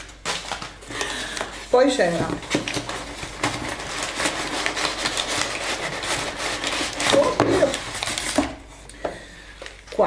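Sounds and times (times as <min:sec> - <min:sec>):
packing paper crinkling: 0:00.0 - 0:08.7.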